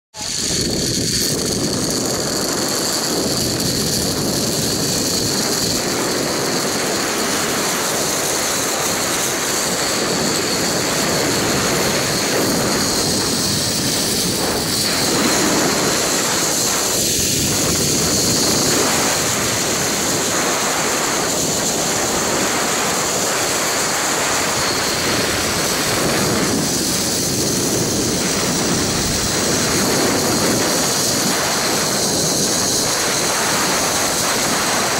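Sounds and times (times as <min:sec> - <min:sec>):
wind rushing on microphone: 0:00.2 - 0:34.9
zipline pulley wheels whining: 0:00.2 - 0:34.9.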